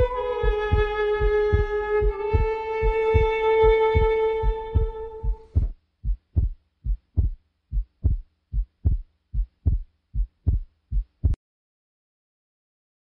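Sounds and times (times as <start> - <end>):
heartbeat thumps: 0.0 - 11.4.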